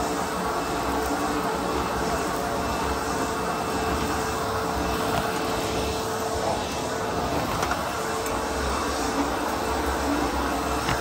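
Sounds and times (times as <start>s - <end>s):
vacuum cleaner motor whine: 0.0s - 11.0s
vacuum tool pushed over carpet: 0.0s - 11.0s.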